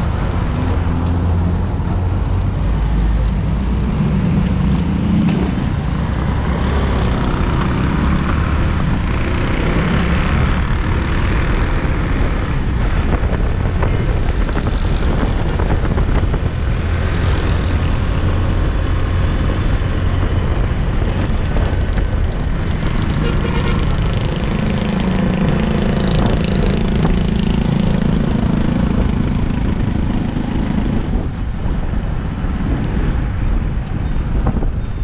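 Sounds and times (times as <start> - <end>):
highway traffic rumble: 0.0 - 35.0.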